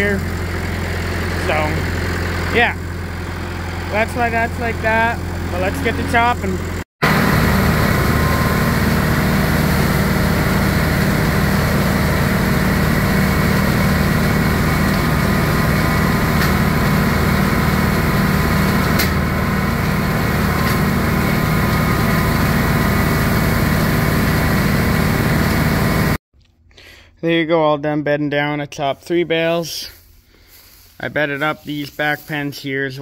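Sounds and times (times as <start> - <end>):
tractor engine and straw chopper drone: 0.0 - 26.2, 29.7 - 33.0.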